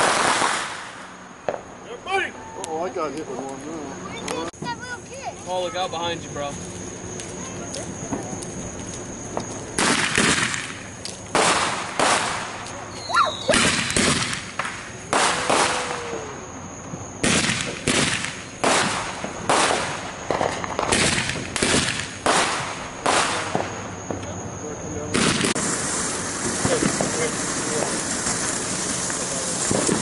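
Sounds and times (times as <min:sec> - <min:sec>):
fireworks bangs: 0:00.0 - 0:02.2, 0:07.1 - 0:30.0
steady hiss: 0:00.0 - 0:30.0.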